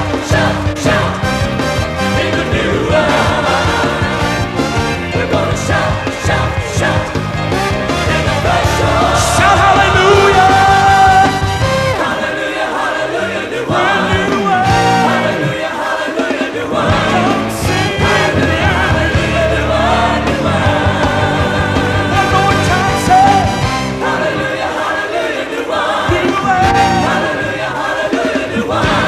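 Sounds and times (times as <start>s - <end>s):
band accompaniment: 0.0s - 29.0s
gospel choir singing: 0.0s - 29.0s.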